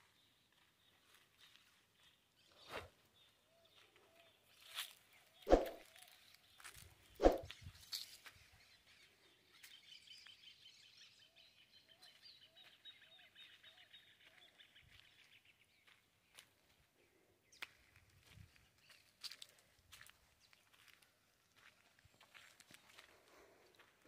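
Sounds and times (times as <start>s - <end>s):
soft bird chirps: 0.0s - 21.1s.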